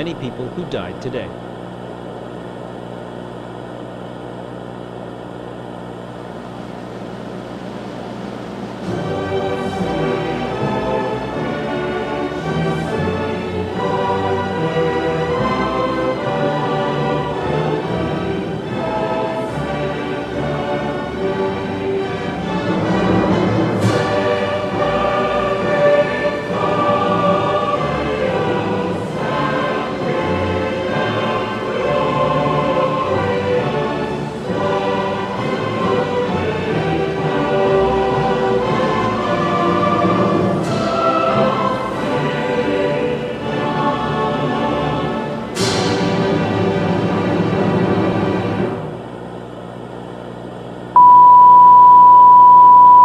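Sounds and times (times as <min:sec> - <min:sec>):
choir singing sustained chords: 0:03.7 - 0:49.0.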